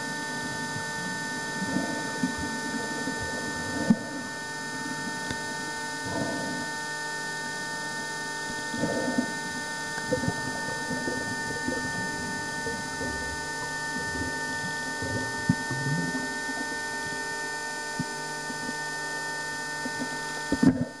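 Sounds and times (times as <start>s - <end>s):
mechanical hum with whining tones: 0.0s - 21.0s.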